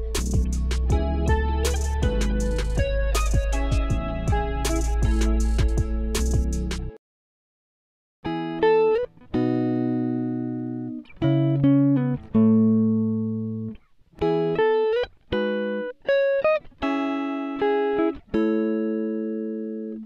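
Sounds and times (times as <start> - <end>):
plucked-string chords: 0.0 - 7.0, 8.3 - 19.3.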